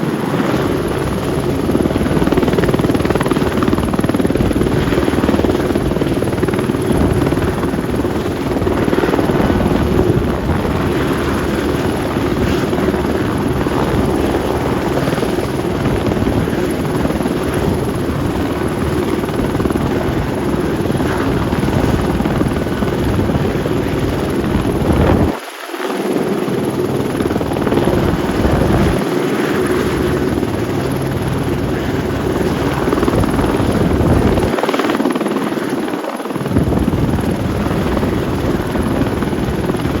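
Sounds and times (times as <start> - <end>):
helicopter engine and rotor: 0.0 - 40.0.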